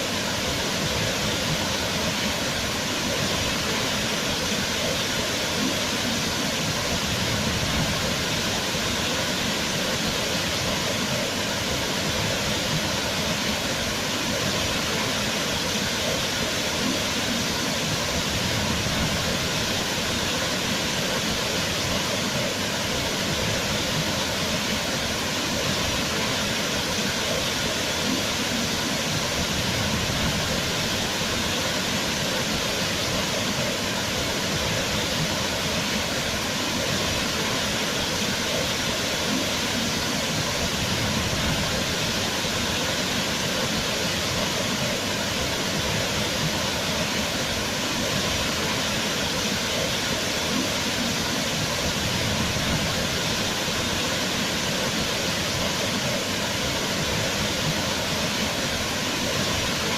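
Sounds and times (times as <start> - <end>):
waterfall pouring and splashing: 0.0 - 59.9.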